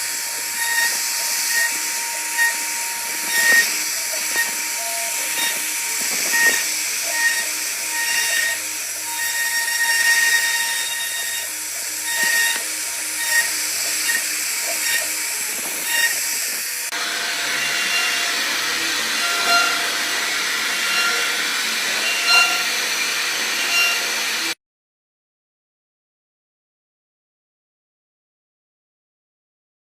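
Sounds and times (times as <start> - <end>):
router spindle hiss: 0.0 - 24.6
stepper motors whining: 0.0 - 24.6.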